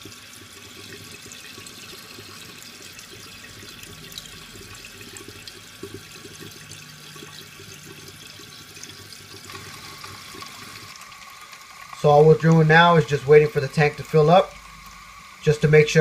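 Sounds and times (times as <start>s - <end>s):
water hissing into toilet cistern: 0.0s - 16.0s.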